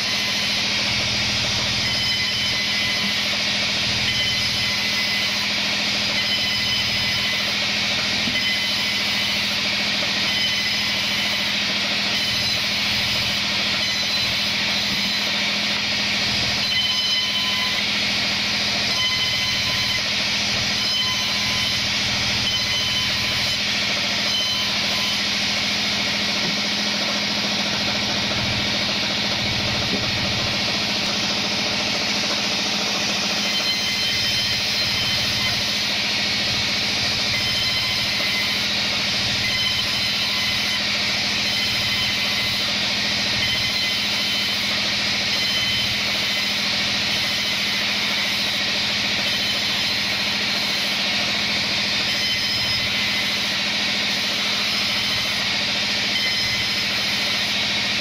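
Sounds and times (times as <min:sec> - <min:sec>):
band saw cutting wood: 0:00.0 - 0:58.0.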